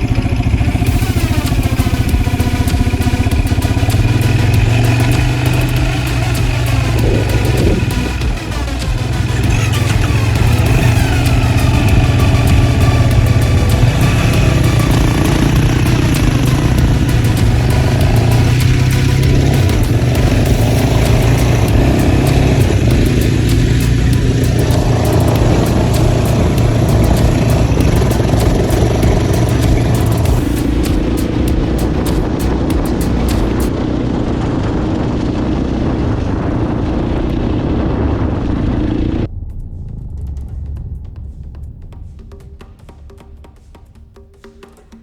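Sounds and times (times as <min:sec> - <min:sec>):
dirt bike engine: 0:00.0 - 0:43.6.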